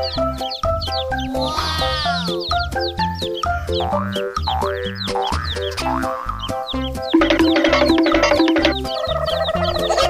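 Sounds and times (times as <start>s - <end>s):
playful background music: 0.0s - 10.0s.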